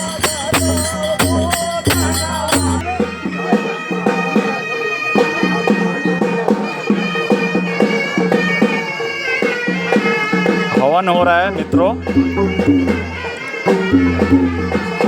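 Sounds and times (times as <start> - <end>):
reedy wind instrument melody: 0.0 - 15.0
steady drum beat: 0.0 - 15.0.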